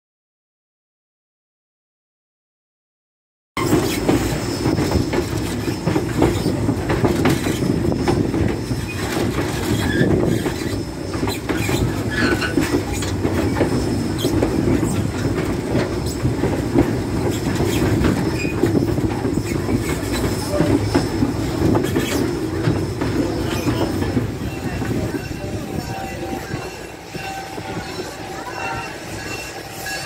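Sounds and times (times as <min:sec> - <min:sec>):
train wheels rumbling on track: 0:03.6 - 0:30.0.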